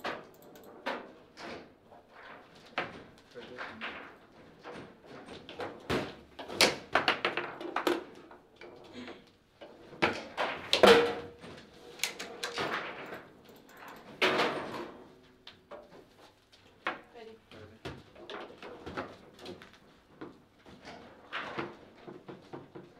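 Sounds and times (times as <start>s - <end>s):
foosball ball cracks and clatters: 0.0s - 8.8s, 9.6s - 16.1s, 17.9s - 22.9s.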